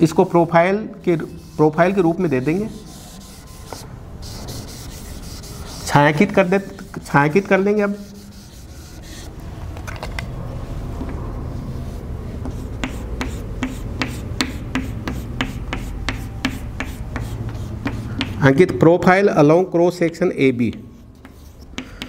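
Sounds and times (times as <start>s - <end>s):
chalk scratching on chalkboard: 0.0s - 9.4s, 10.8s - 18.6s, 20.6s - 22.0s.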